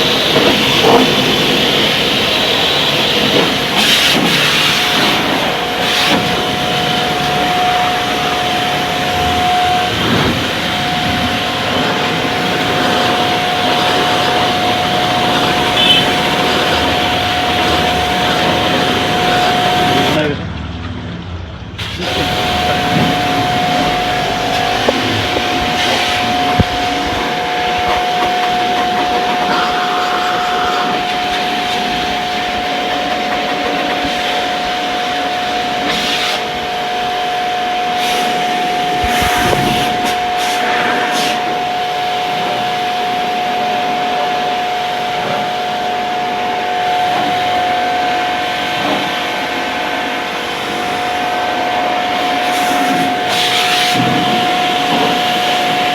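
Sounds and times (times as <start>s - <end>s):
pressure washer motor whine: 0.0s - 55.9s.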